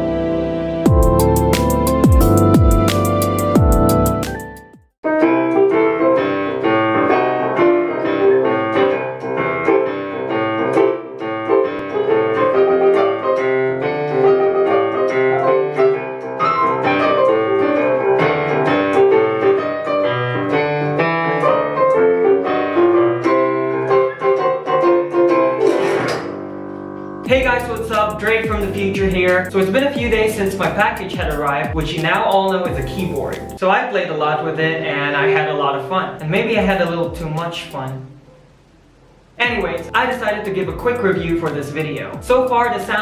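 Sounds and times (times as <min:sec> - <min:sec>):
digital piano piece: 0:00.0 - 0:33.6, 0:36.2 - 0:38.2, 0:39.4 - 0:43.0.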